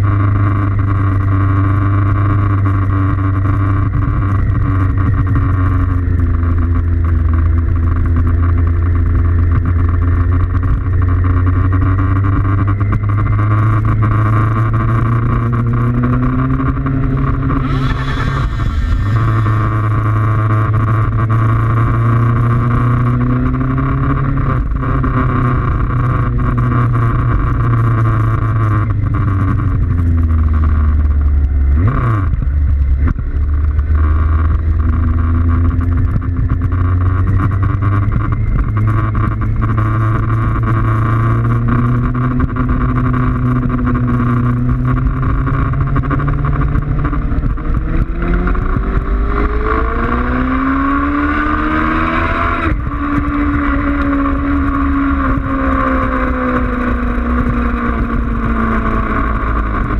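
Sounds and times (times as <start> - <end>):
motorcycle engine running: 0.0 - 59.9
wind noise: 0.8 - 59.9.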